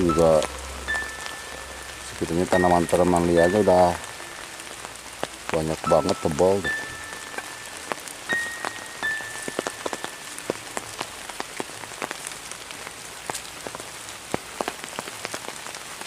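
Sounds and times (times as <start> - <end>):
rain drops tapping: 0.0 - 16.0.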